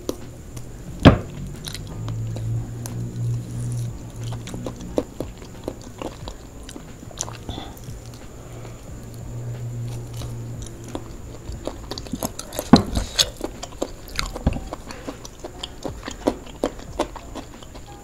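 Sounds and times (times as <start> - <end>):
biting and chewing: 0.0 - 18.0
mouth clicks: 0.0 - 18.0
sharp crunches: 0.0 - 18.0.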